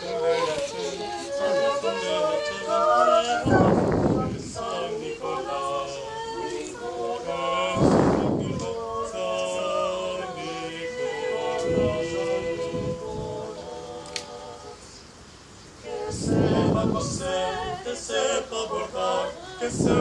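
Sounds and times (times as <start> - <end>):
voices singing: 0.0 - 20.0.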